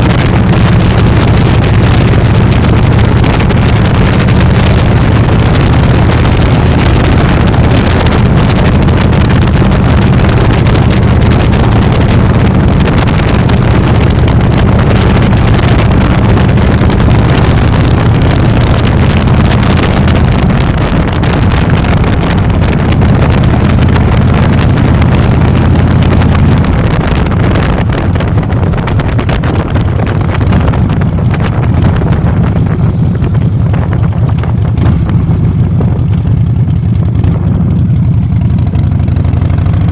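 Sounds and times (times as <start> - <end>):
motor scooter engine running: 0.0 - 39.9
wind rushing over microphone: 0.0 - 39.9.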